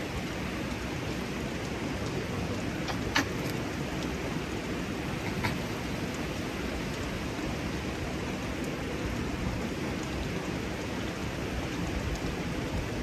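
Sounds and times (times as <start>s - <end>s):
running water cascade: 0.0s - 13.0s.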